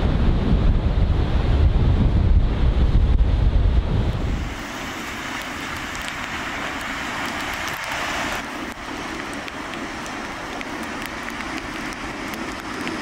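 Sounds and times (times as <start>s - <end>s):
breaking surf: 0.0s - 13.0s
wind rumbling on microphone: 0.0s - 13.0s.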